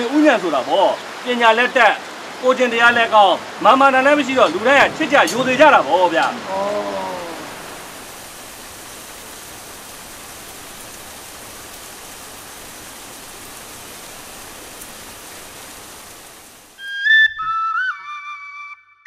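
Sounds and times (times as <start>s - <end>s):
steady rain hiss: 0.0s - 16.9s.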